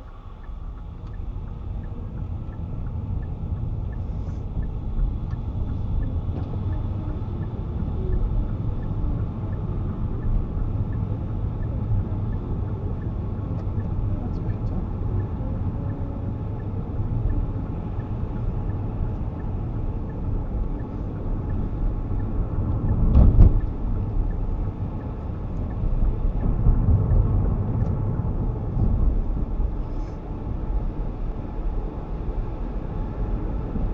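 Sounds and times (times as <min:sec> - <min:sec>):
engine and tyre rumble in car: 0:00.0 - 0:33.9.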